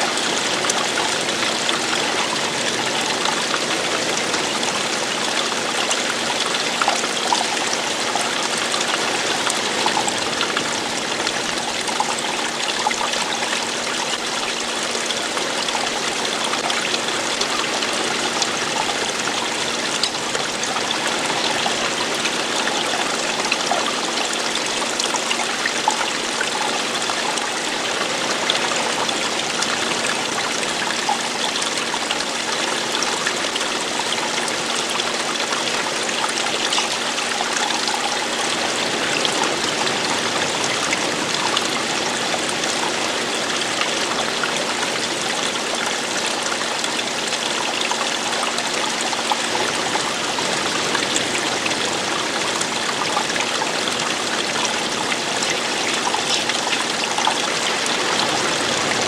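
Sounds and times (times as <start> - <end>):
running water flowing: 0.0 - 59.0
water trickles and splashes: 0.0 - 59.0.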